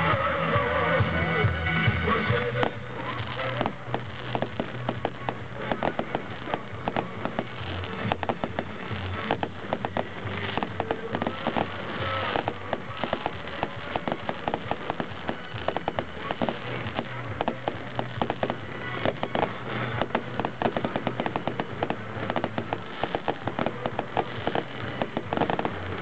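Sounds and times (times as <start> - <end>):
fireworks popping and banging: 2.0 - 26.0.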